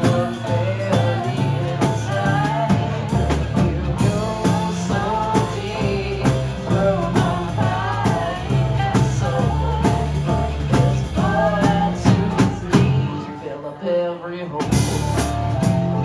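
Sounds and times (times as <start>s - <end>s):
drum kit beat: 0.0s - 13.3s, 14.6s - 16.0s
sustained bass line: 0.0s - 13.4s, 14.6s - 16.0s.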